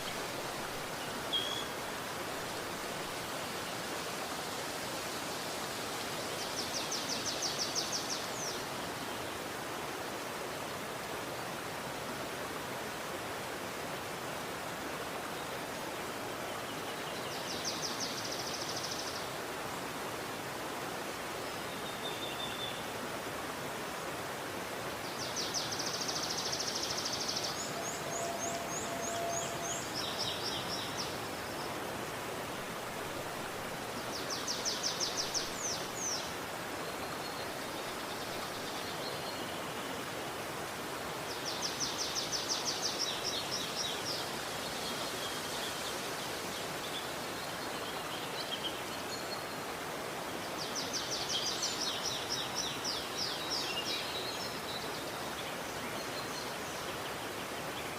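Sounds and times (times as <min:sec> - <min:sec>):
river rushing: 0:00.0 - 0:57.9.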